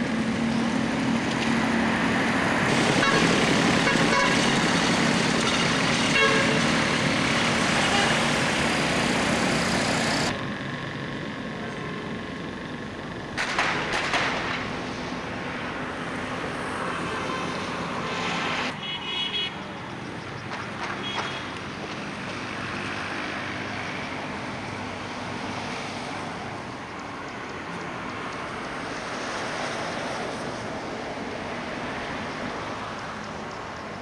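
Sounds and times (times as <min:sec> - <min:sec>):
vehicle engine and road noise: 0:00.0 - 0:34.0.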